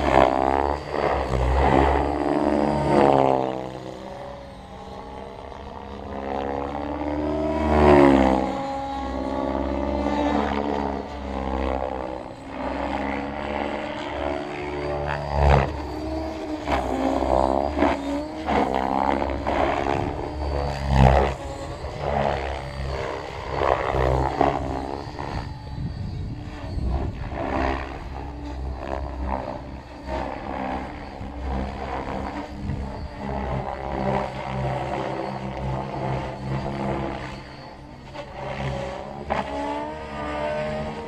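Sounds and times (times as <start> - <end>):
rc helicopter flying: 0.0 - 41.0.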